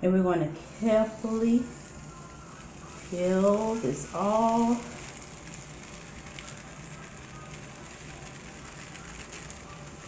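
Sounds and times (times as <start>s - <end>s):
low background noise: 0.0s - 10.0s
plastic tape peeling crackle: 0.6s - 10.0s.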